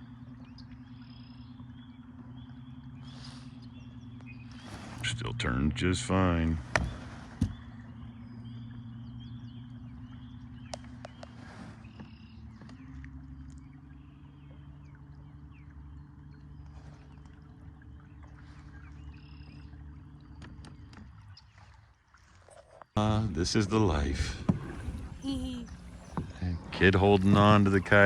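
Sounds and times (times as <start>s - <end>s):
electric trolling motor humming: 0.0s - 28.0s.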